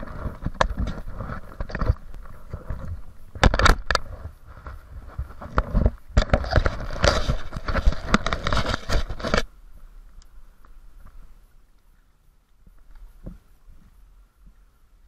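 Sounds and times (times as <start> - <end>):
dry branches rustling and crackling: 0.0 - 14.7
faint scattered ticks: 0.0 - 15.0.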